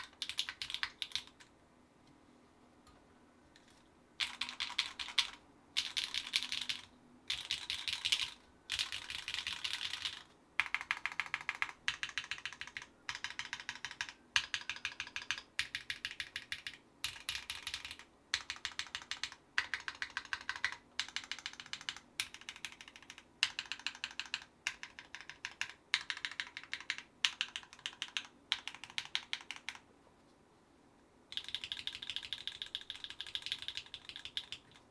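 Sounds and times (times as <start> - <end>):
typing on mechanical keyboard: 0.0 - 1.5, 4.2 - 29.8, 31.3 - 34.9.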